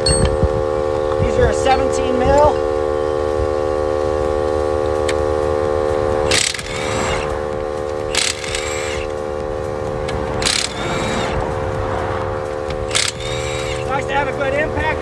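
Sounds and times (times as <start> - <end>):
impact wrench buzzing: 0.0 - 15.0
impact wrench sharp bursts: 1.6 - 15.0.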